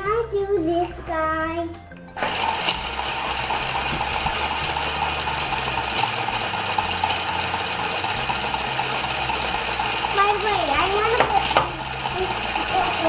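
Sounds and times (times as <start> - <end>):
toy motor whirring and clicking: 0.0 - 13.0.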